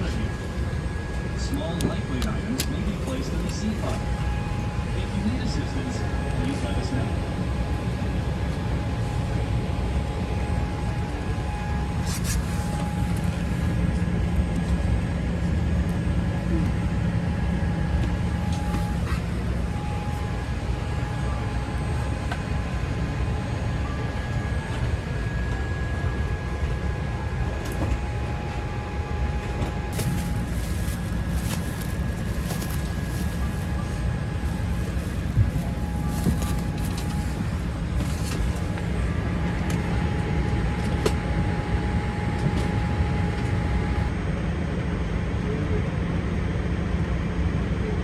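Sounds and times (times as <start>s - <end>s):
thin steady whine: 0.0s - 44.6s
airliner cabin rumble: 0.0s - 45.7s.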